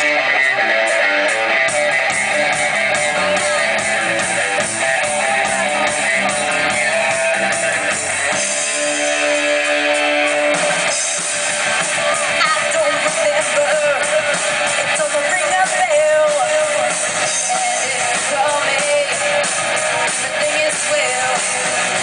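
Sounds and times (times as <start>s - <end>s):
bass and drums: 0.0s - 22.0s
electric guitars: 0.0s - 22.0s.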